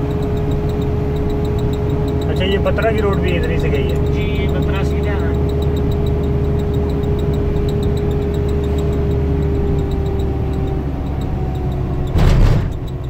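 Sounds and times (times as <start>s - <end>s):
steady hum: 0.0s - 12.4s
road and engine noise in cabin: 0.0s - 13.0s.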